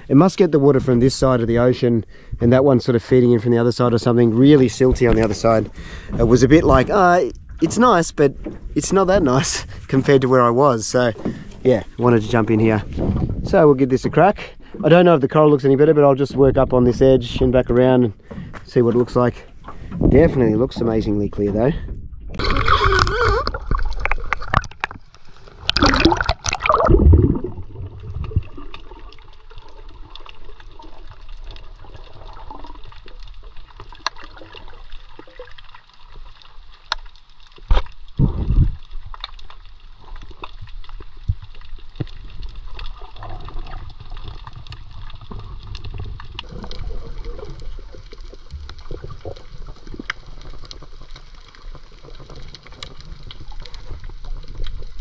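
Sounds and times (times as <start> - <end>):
water gurgling and sloshing: 0.0 - 55.0.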